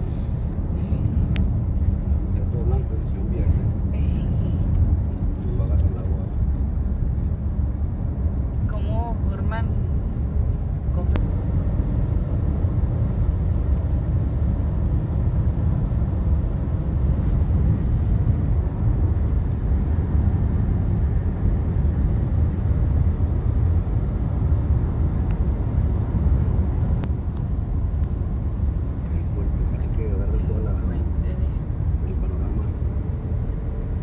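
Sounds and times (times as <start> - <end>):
car driving on highway: 0.0 - 34.0.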